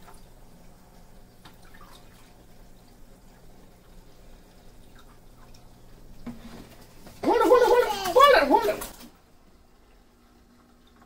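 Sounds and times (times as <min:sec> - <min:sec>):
low steady hum: 0:00.0 - 0:11.0
water dripping: 0:00.0 - 0:11.0.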